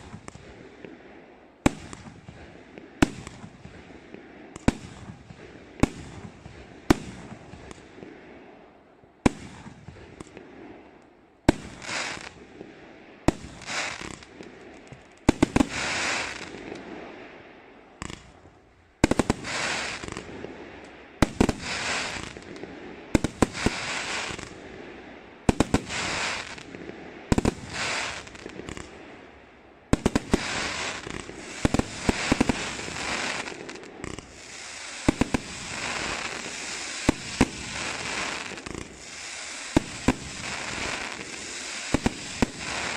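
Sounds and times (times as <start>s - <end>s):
crackling firework stars: 0.0s - 42.9s.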